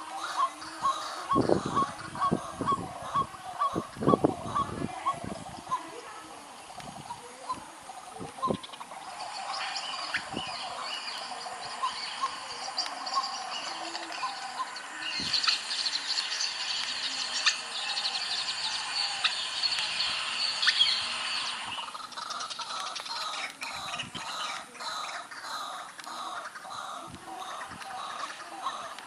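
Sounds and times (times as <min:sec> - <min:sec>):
birds chirping in chorus: 0:00.0 - 0:29.0.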